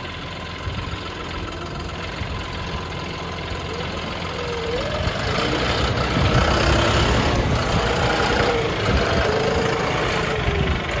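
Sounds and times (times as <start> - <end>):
tractor diesel engine running: 0.0 - 11.0
tractor wading through muddy water: 0.0 - 11.0.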